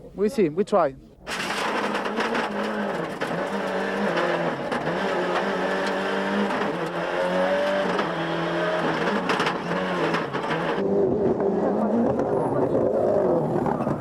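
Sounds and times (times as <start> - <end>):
rally car engine revving: 1.2 - 14.0.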